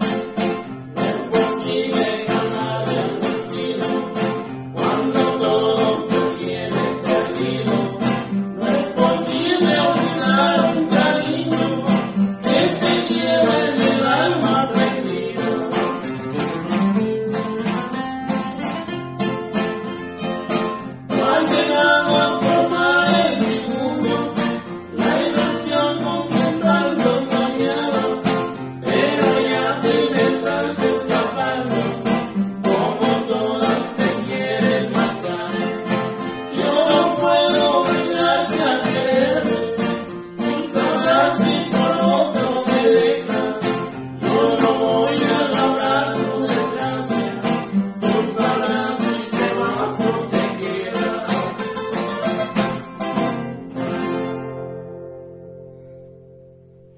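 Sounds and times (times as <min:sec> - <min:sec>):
men singing: 0:00.0 - 0:18.0, 0:20.5 - 0:52.6
acoustic guitars strummed and plucked: 0:00.0 - 0:56.9.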